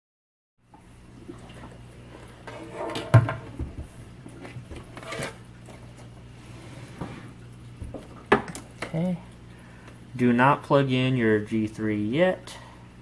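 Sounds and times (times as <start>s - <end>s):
steady low hum: 0.6s - 13.0s.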